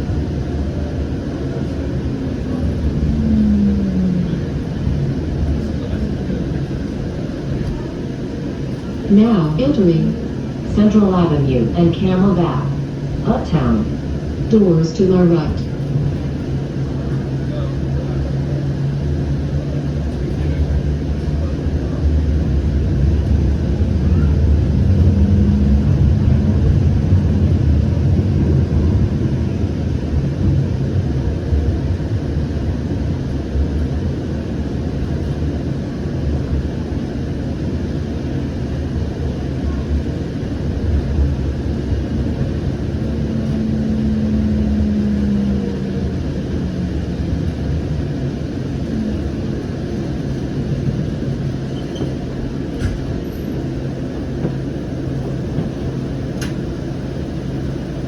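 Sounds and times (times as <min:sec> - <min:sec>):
train cabin rumble and hum: 0:00.0 - 0:58.0.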